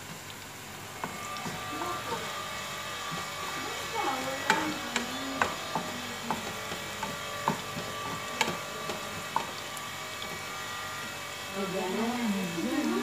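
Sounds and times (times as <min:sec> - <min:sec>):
onions sizzling in oil: 0:00.0 - 0:13.0
wooden spatula scraping frying pan: 0:01.0 - 0:12.2.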